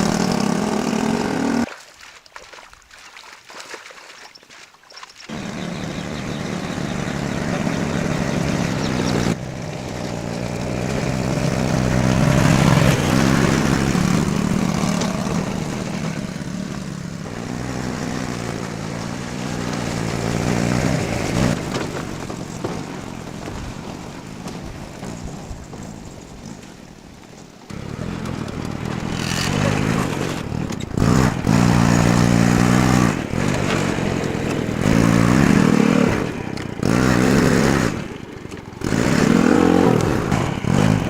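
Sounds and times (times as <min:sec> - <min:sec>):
motor vehicle running: 0:00.0 - 0:01.8, 0:03.6 - 0:41.0.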